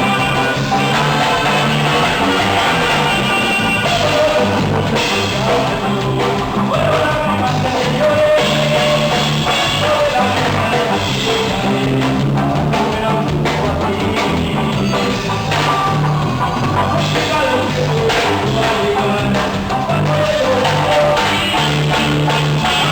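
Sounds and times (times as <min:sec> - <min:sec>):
band music with drums and bass: 0:00.0 - 0:22.9.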